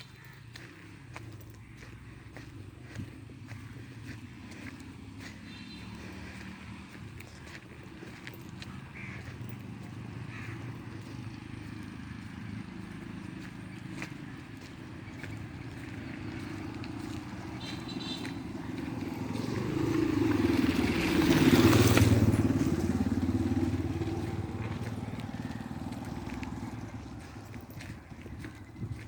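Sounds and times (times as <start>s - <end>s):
vehicle driving past: 0.5s - 29.0s.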